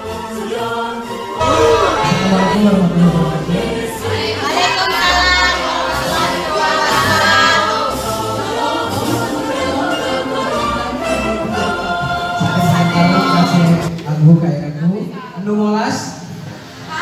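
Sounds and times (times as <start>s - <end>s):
man and woman singing duet: 0.0s - 13.9s.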